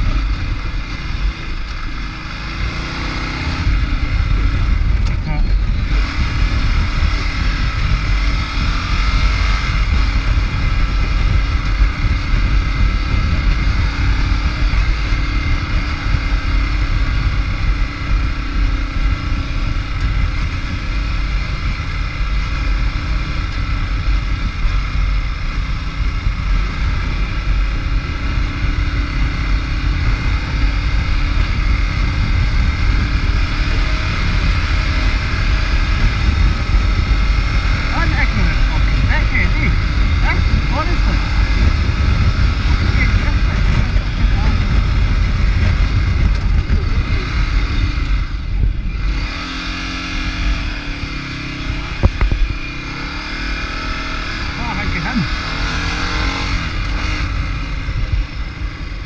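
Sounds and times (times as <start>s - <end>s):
motorcycle engine cruising: 0.0s - 59.0s
wind rumble on microphone: 0.0s - 59.0s.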